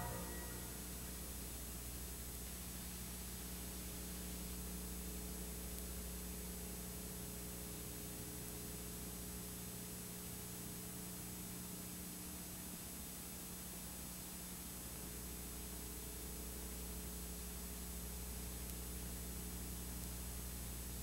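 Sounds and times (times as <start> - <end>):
low electrical hum with hiss: 0.0 - 21.0.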